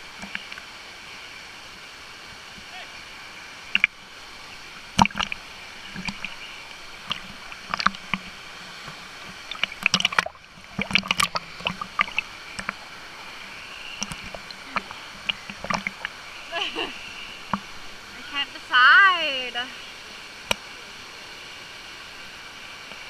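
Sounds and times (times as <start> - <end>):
small waterfalls rushing: 0.0 - 23.0
water lapping and splashing: 0.0 - 23.0.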